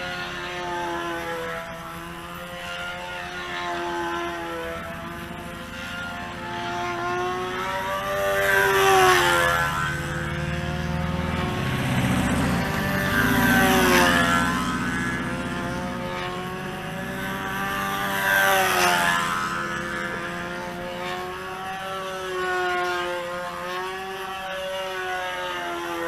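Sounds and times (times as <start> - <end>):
model airplane engine buzzing: 0.0 - 26.0.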